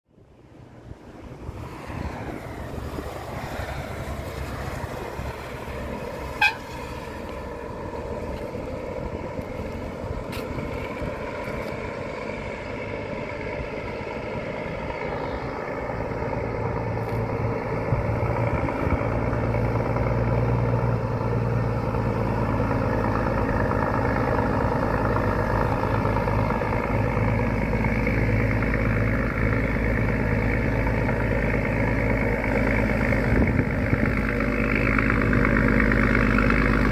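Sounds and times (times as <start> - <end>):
diesel truck engine running: 0.2 - 36.9.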